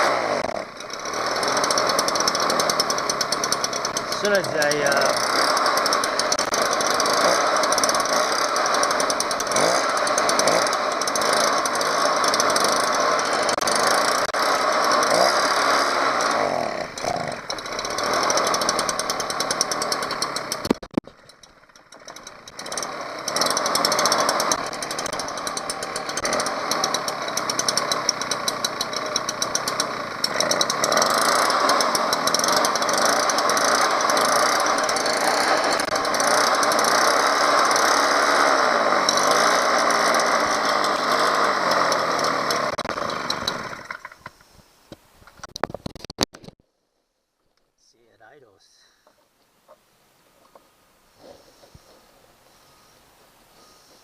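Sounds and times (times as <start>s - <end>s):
leaf blower engine running: 0.0s - 44.4s, 50.5s - 54.0s.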